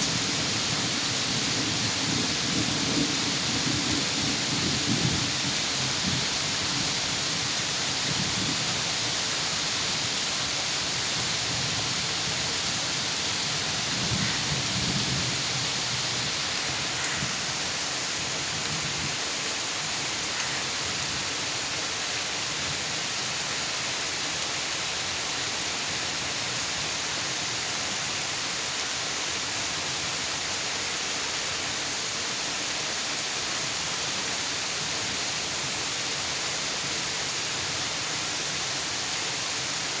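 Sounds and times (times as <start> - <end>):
heavy rain hissing: 0.0 - 40.0.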